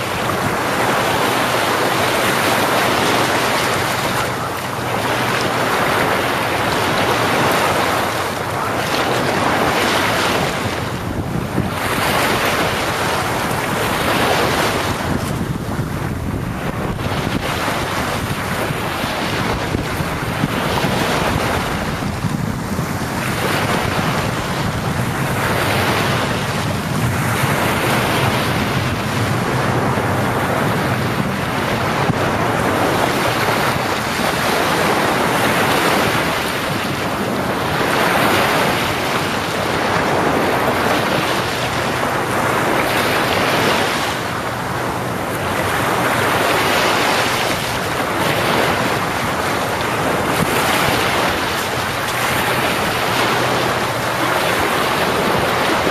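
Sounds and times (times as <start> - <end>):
sea waves breaking on beach: 0.0 - 55.9
wind buffeting microphone: 0.0 - 55.9.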